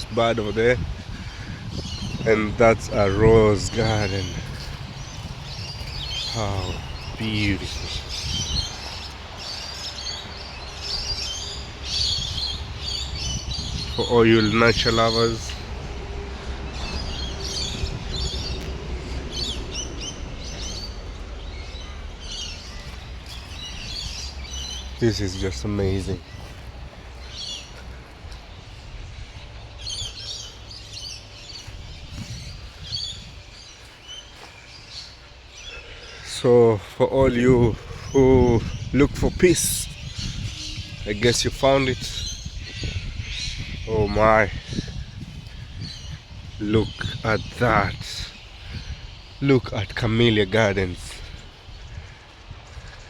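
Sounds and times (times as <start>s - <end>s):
birds chirping and calling: 0.0s - 53.0s
steady low rumble: 0.0s - 53.0s.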